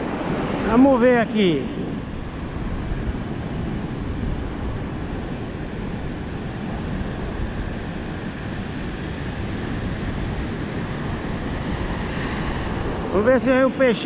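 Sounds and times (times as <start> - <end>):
ocean surf on a beach: 0.0 - 14.0
wind rumbling on microphone: 0.0 - 14.0.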